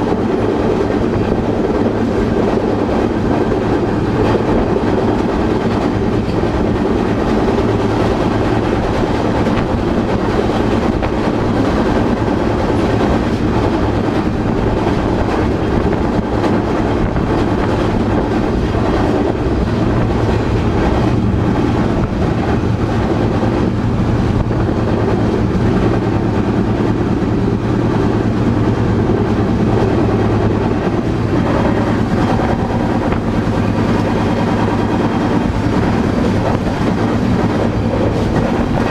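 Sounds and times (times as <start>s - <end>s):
freight train rumbling and rattling: 0.0s - 38.9s.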